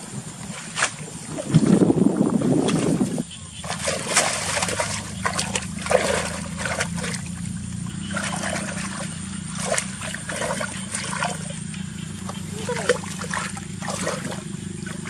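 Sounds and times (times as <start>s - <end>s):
steady low hum: 0.0s - 15.0s
water splashing and trickling: 0.4s - 15.0s.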